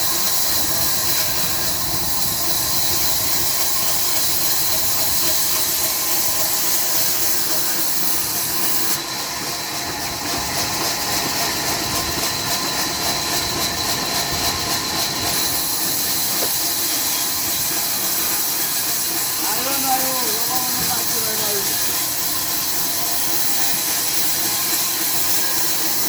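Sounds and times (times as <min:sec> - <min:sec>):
sawmill machinery hissing: 0:00.0 - 0:26.0.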